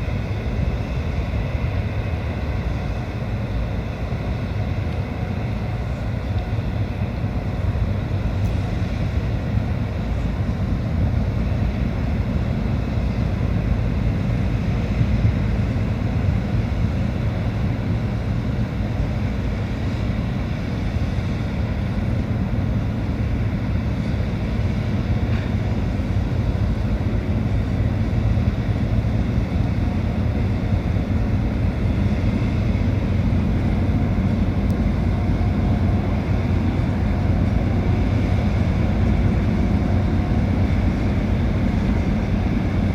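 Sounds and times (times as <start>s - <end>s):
ship engines droning: 0.0s - 42.9s.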